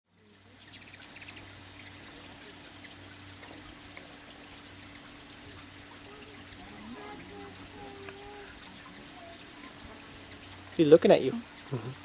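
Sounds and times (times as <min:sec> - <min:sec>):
hummingbirds chirping: 0:00.1 - 0:12.0
steady rushing hiss: 0:00.1 - 0:12.0.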